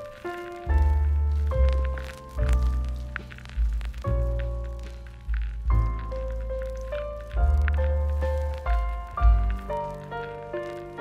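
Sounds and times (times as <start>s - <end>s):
jazz music with bass line: 0.0s - 11.0s.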